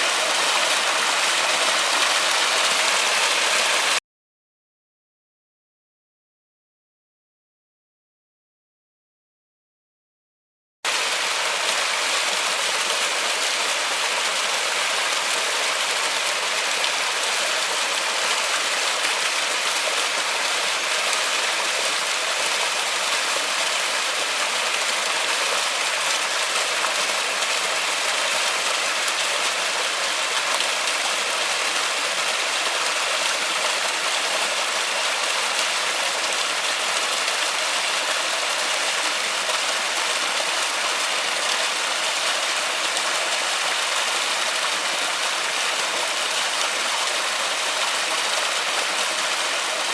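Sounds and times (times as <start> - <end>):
steady rain in a forest: 0.0 - 4.0, 10.9 - 49.9.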